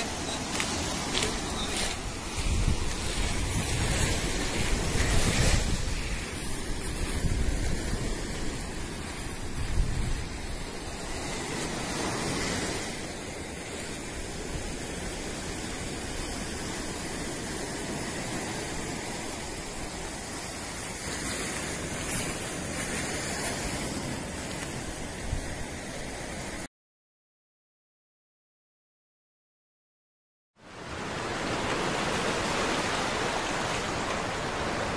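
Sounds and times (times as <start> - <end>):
sea surf washing on shore: 0.0 - 26.7, 30.6 - 34.9.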